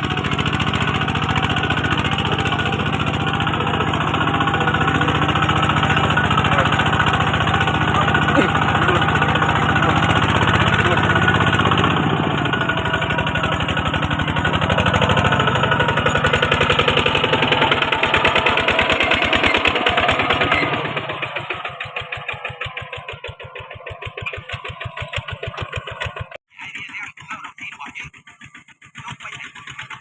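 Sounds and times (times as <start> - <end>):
diesel tractor engine running: 0.0 - 30.0.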